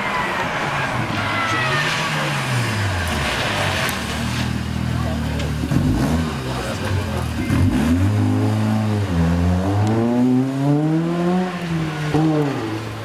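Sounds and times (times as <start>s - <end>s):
rally car engine revving: 0.3s - 13.0s.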